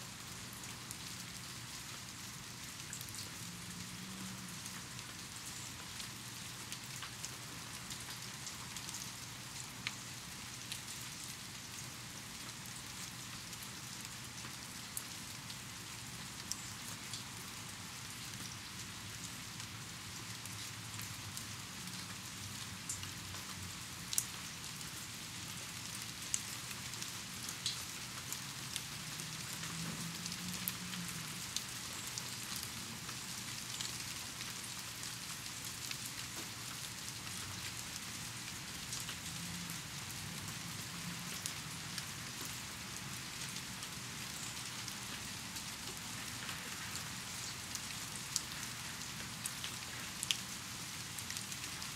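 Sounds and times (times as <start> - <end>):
steady rain falling: 0.0 - 51.9
raindrops ticking close by: 0.2 - 51.9.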